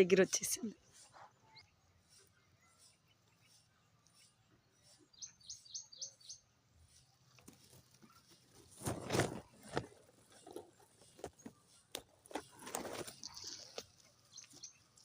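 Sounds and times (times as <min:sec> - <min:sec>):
sparrows chirping: 0:00.0 - 0:08.8, 0:09.5 - 0:15.0.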